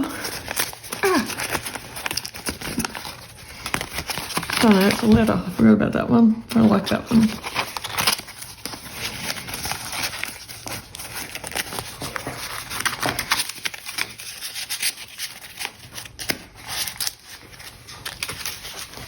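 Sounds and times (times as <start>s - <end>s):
paper and card rustling: 0.0s - 19.0s.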